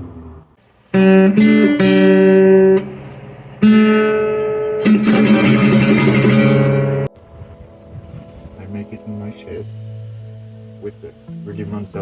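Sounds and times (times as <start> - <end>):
guitar strumming chords: 0.9 - 12.0.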